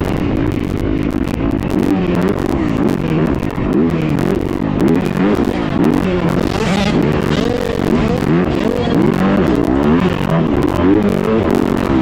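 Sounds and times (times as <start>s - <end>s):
motocross bike engine revving: 0.0s - 12.0s
steady rushing noise: 0.0s - 12.0s.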